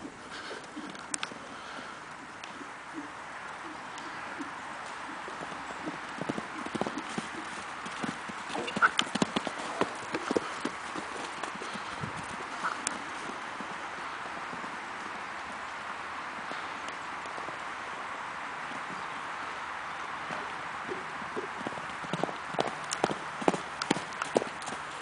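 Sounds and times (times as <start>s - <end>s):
steady background hiss: 0.0s - 25.0s
horse hoofbeats: 2.2s - 25.0s.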